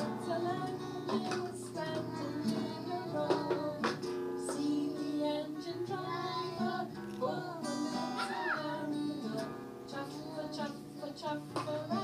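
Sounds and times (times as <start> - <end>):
acoustic guitar strumming: 0.0 - 12.0
people singing: 0.0 - 12.0.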